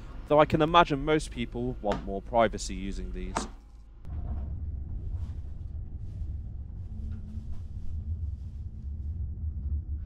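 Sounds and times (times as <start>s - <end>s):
train cabin rumble: 0.0s - 10.0s.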